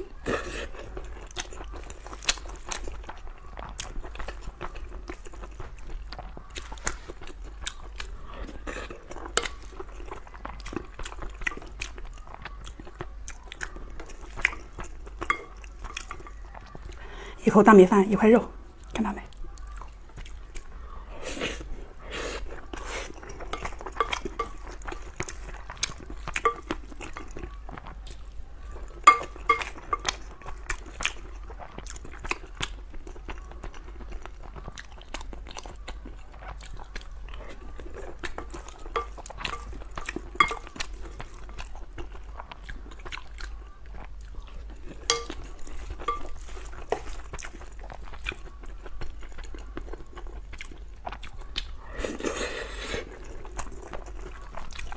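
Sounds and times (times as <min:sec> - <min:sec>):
person chewing food: 0:00.0 - 0:17.4, 0:18.7 - 0:54.9.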